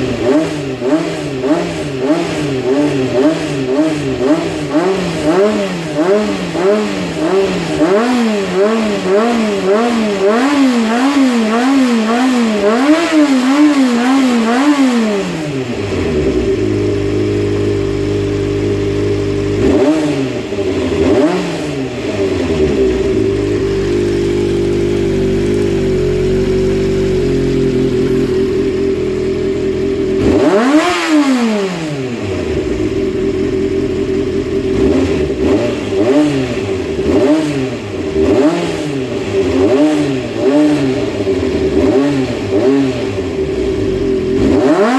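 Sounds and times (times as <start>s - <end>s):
motorcycle engine revving and idling: 0.0s - 44.9s.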